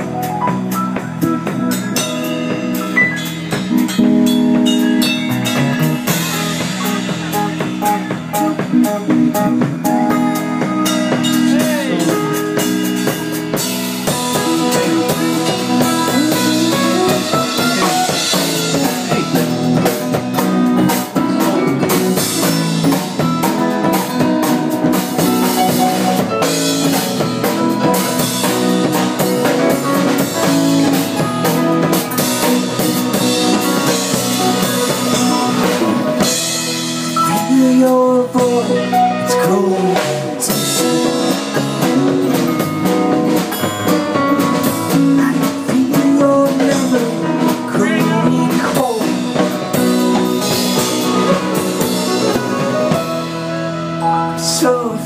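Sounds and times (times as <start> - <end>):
guitar lead with bending notes: 0.0 - 55.0
live band playing: 0.0 - 55.0.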